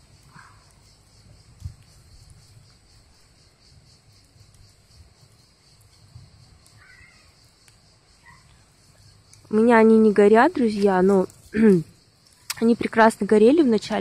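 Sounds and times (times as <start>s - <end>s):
high insect buzz: 0.0s - 14.0s.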